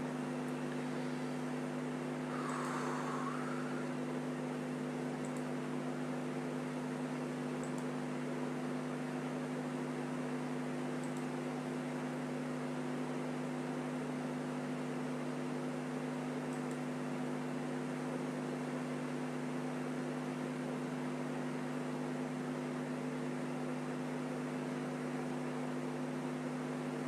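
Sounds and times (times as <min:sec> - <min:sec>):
fan humming with hiss: 0:00.0 - 0:27.0.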